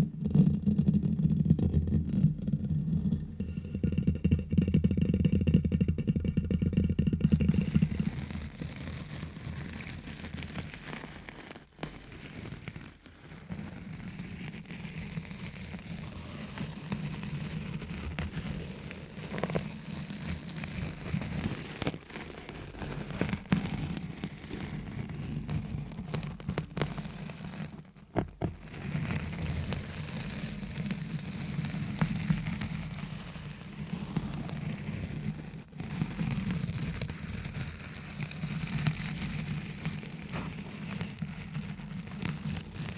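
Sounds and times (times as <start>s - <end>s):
scratching and tapping on microphone: 0.0s - 42.9s.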